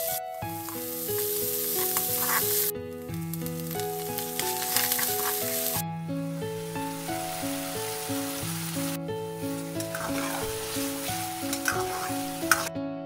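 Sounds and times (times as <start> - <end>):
food sizzling in hot oil: 0.0 - 12.7
background music: 0.0 - 13.0.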